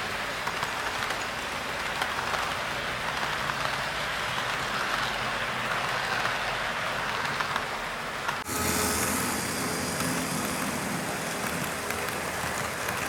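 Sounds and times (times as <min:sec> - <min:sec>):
model train rolling on rails: 0:00.0 - 0:13.0.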